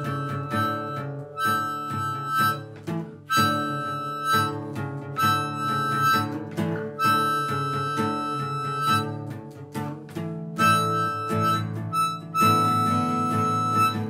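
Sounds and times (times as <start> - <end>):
buzzy acoustic guitar plucked: 0.0 - 14.0
harmonica held notes: 0.0 - 14.0.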